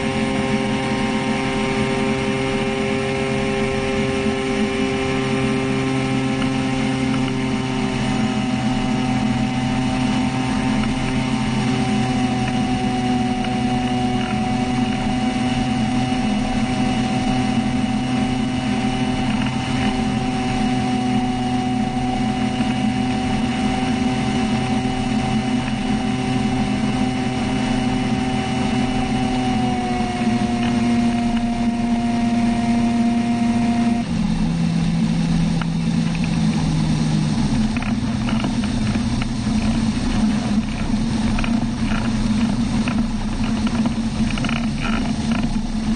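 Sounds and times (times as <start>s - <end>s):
boat engine droning: 0.0s - 45.9s.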